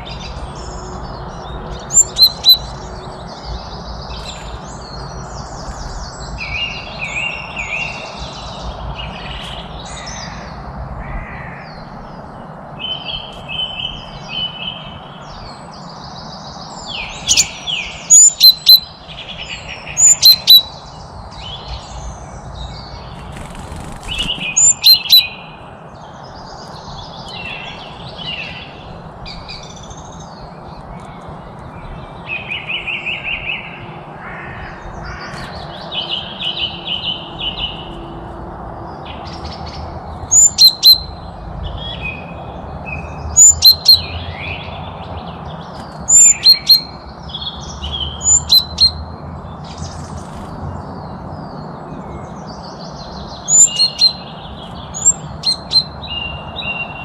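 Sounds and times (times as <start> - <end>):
birds calling and singing: 0.0 - 57.0.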